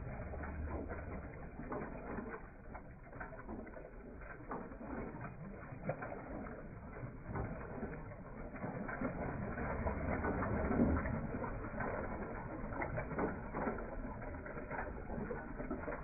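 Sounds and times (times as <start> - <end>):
water splashing into tub: 0.0 - 16.0.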